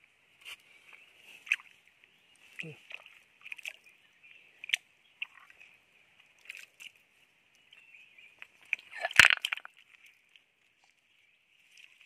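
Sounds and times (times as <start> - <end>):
water sloshing and splashing: 0.9 - 12.0.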